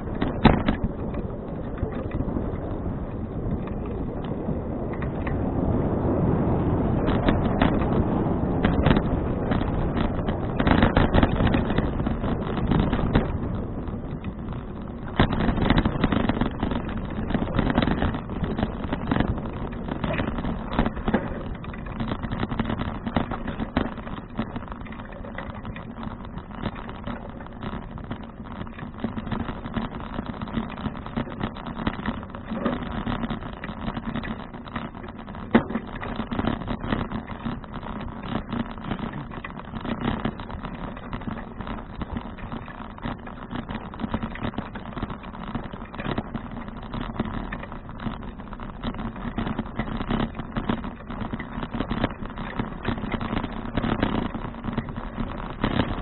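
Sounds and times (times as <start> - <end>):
bike rattling: 0.0 - 56.0
tyre and road rumble: 0.0 - 56.0
wind rushing over microphone: 0.0 - 56.0.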